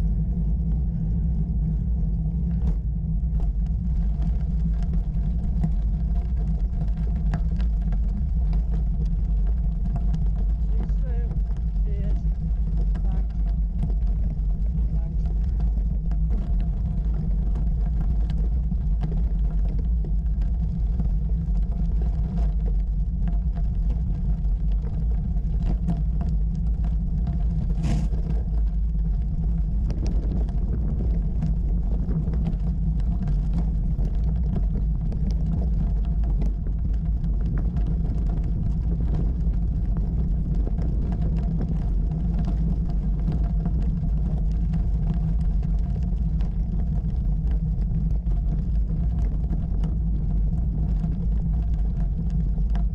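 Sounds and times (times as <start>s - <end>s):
bicycle tyres on gravel: 0.0s - 52.9s
wind rumble on microphone: 0.0s - 52.9s.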